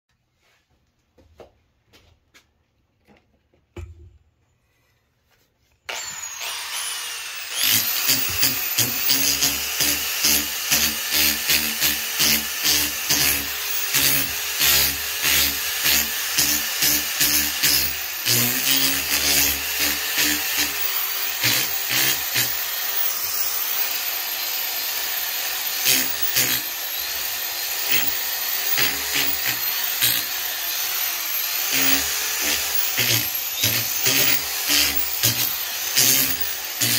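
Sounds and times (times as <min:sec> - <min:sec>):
drill sanding wood: 0:05.9 - 0:36.9.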